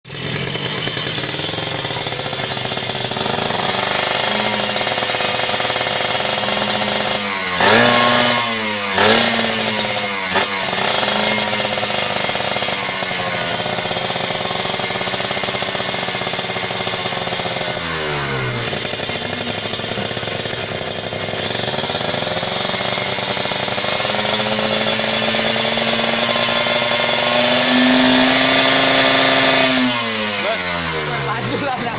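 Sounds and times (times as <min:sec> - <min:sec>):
engine throttle blips: 0:00.1 - 0:31.9
motorcycle engine idling: 0:00.1 - 0:31.9.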